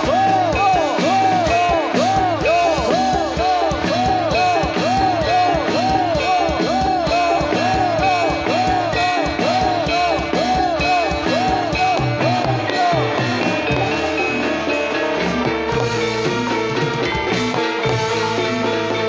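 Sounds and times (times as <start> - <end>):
ensemble music through sound system: 0.0 - 19.0
steady drumming: 0.0 - 19.0.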